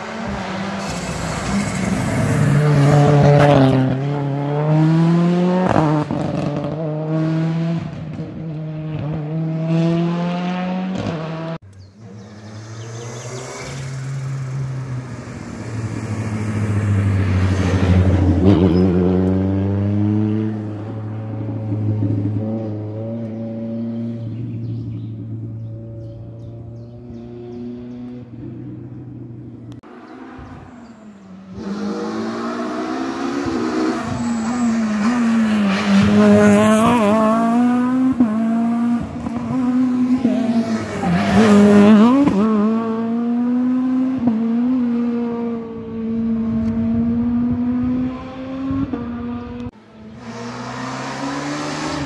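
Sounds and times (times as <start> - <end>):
rally cars at full throttle: 0.0 - 52.0.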